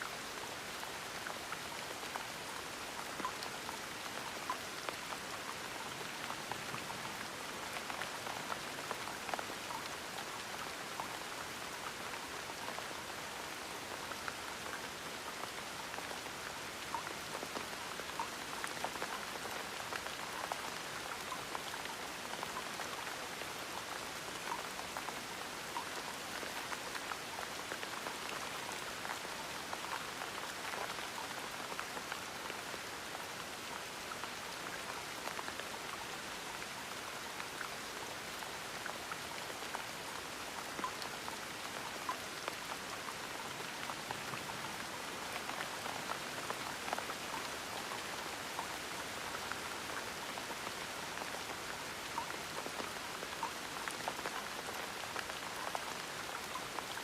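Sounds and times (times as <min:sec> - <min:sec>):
gentle rain: 0:00.0 - 0:57.0
raindrops pattering on surface: 0:00.0 - 0:57.0.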